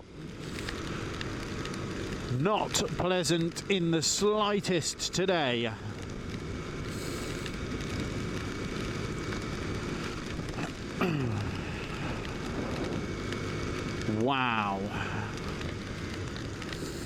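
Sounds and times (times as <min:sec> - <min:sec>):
wind rain and engine rush: 0:00.0 - 0:17.0.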